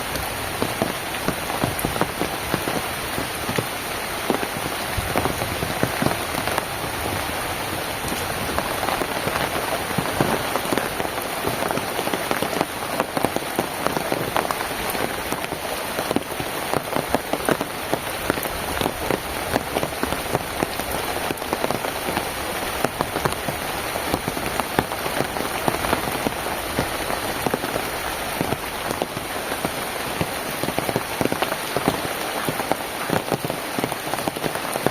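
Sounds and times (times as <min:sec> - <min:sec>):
rain drops striking a surface: 0:00.0 - 0:34.9.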